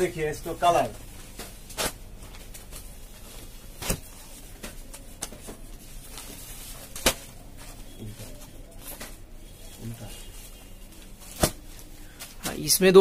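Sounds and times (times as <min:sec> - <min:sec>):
fabric handling noise: 0:00.0 - 0:12.7
faint room hum: 0:00.0 - 0:13.0.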